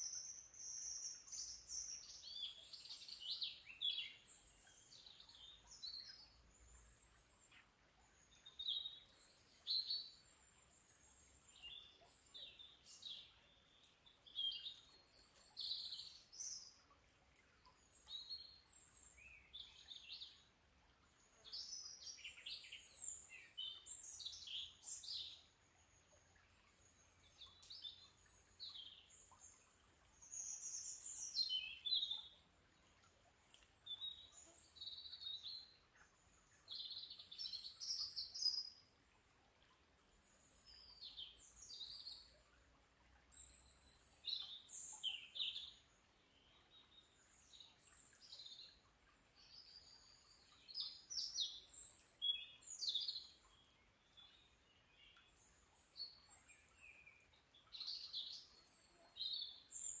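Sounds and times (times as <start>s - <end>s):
songbirds singing: 0.0s - 60.0s.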